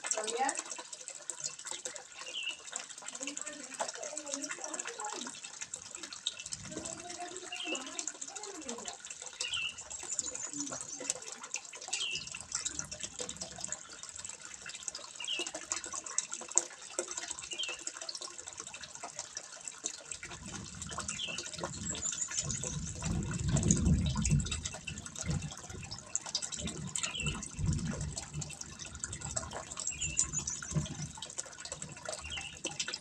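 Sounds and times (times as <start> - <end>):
water trickling into pond: 0.0 - 33.0.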